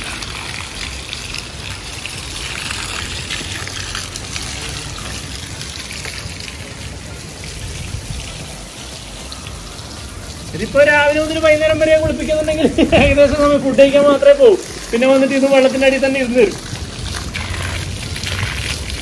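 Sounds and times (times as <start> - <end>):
garden hose spraying water: 0.0 - 19.0.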